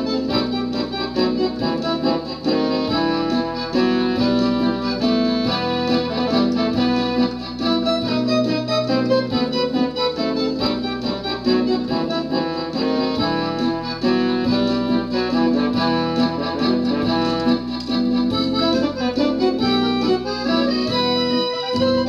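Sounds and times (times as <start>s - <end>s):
electronic keyboard waltz music: 0.0s - 22.0s.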